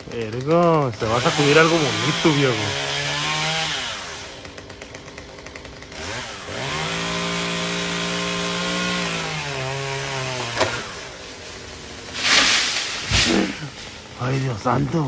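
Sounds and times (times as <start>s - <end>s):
small engine idling and revving: 0.0s - 15.0s.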